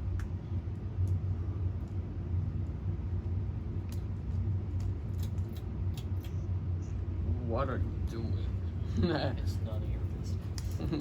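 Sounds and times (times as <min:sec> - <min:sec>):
ceiling fan coasting down: 0:00.0 - 0:11.0.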